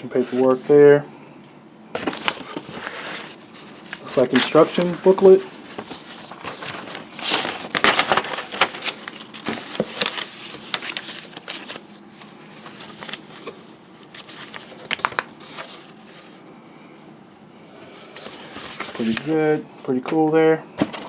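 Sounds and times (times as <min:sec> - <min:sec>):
paper packaging rustling: 0:00.0 - 0:00.6, 0:02.0 - 0:16.5, 0:17.8 - 0:19.4, 0:20.8 - 0:21.0.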